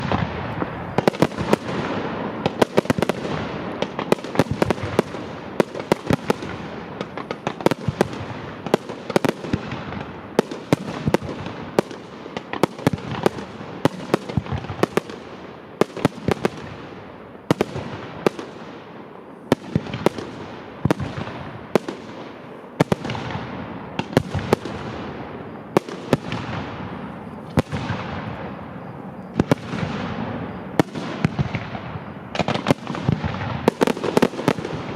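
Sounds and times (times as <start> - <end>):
fireworks bangs: 0.0 - 34.9
fireworks barrage noise: 0.0 - 34.9.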